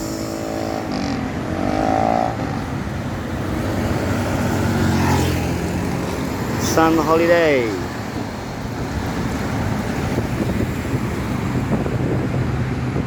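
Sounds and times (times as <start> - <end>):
bus engine running: 0.0 - 13.0
traffic noise: 0.0 - 13.0.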